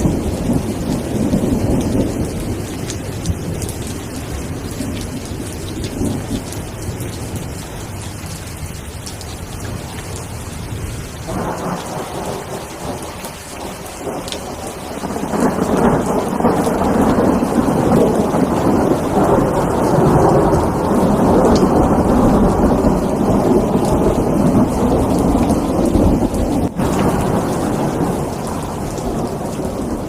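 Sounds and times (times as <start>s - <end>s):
low rumbling thunder: 0.0s - 8.1s, 10.2s - 30.0s
steady rain falling: 0.0s - 30.0s.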